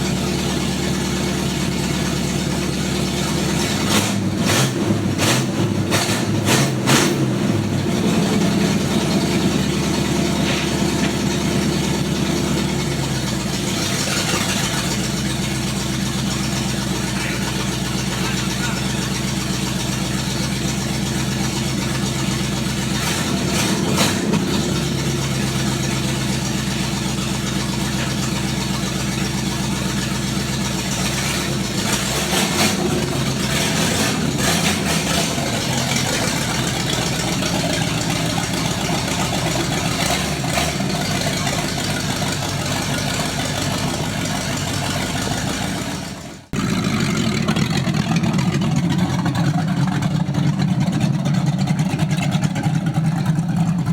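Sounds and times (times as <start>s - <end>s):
loud car engine idling and revving: 0.0s - 53.9s.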